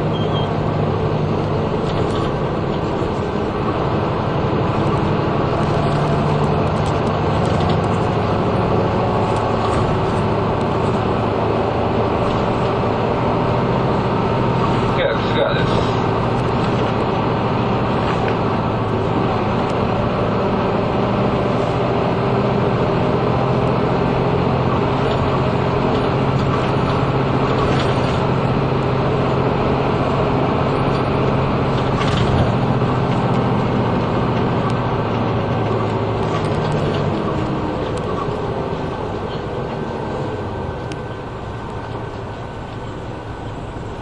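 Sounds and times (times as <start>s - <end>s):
bus diesel engine humming: 0.0s - 44.0s
tyre and road noise: 0.0s - 44.0s.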